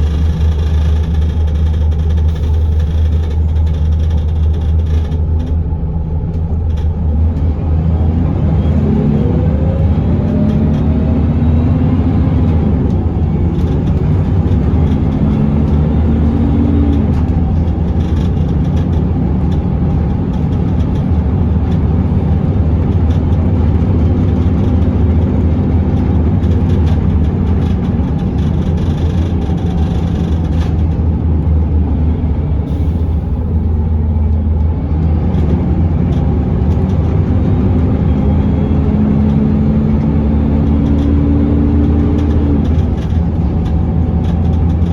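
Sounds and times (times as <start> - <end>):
bus diesel engine under way: 0.0 - 44.9.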